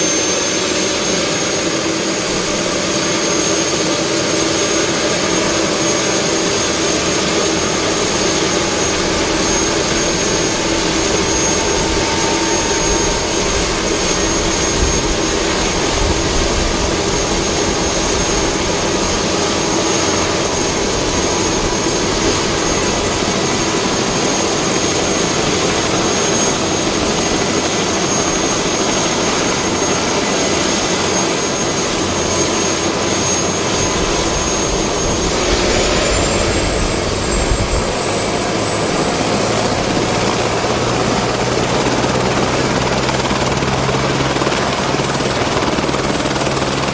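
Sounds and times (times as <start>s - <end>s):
helicopter turbine engine and rotor: 0.0s - 46.9s.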